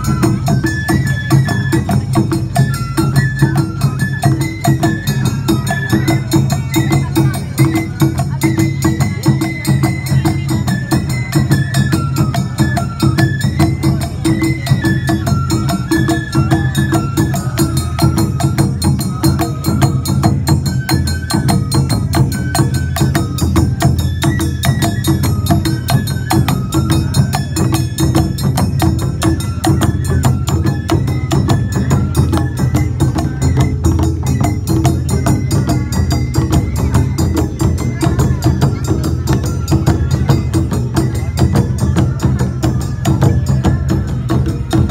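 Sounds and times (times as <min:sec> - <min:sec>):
bamboo flute melody: 0:00.0 - 0:44.9
taiko drum beats: 0:00.0 - 0:44.9.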